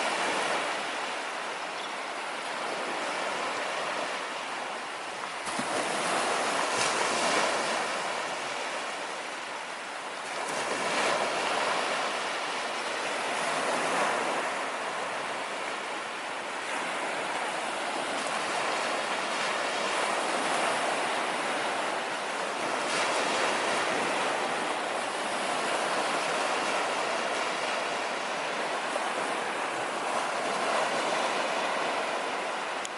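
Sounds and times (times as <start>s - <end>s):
sea waves breaking on beach: 0.0s - 32.9s.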